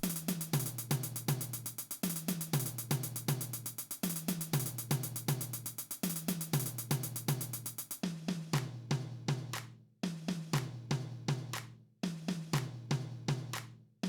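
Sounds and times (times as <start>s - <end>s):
drum and hi-hat beat: 0.0s - 13.8s.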